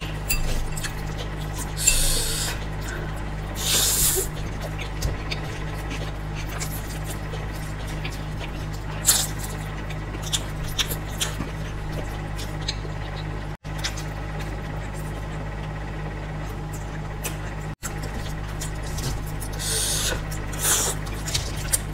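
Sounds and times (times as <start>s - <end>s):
steady low hum: 0.0s - 21.9s
noodles chewed and slurped: 0.1s - 15.4s, 16.5s - 21.9s.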